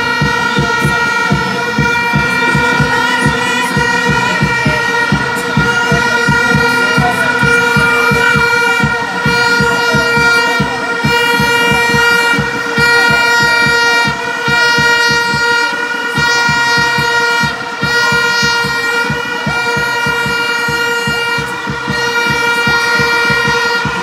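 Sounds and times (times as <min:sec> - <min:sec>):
fast low drum beat: 0:00.0 - 0:24.0
horn blowing high note: 0:00.0 - 0:24.0
stadium crowd noise: 0:00.0 - 0:24.0.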